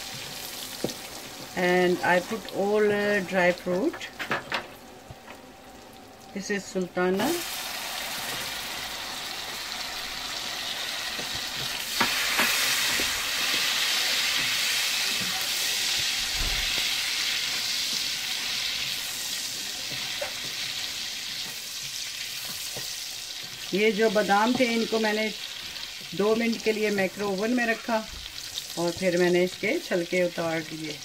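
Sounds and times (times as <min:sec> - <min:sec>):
butter and oil sizzling in pot: 0:00.0 - 0:31.0.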